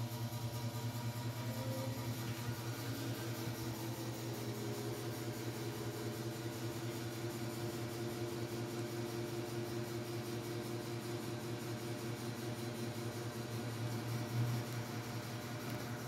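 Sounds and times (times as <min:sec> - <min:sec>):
fan motor hum: 0:00.0 - 0:16.0.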